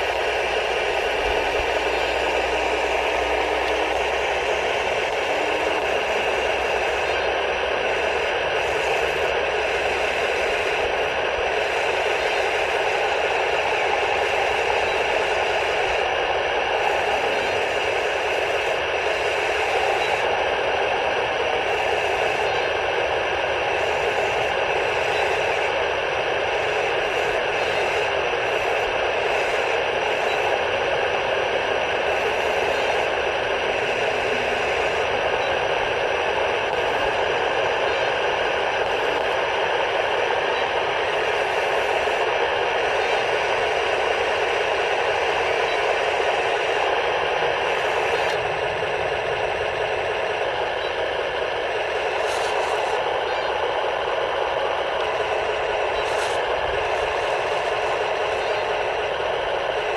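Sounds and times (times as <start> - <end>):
simulated engine rumble from speaker: 0.0 - 59.9.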